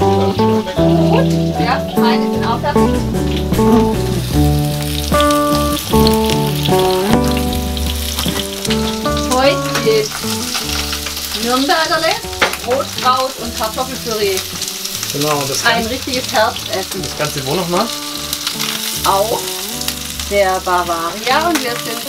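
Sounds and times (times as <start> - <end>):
music with held notes: 0.0 - 22.0
sausages sizzling in a pan: 0.0 - 22.0.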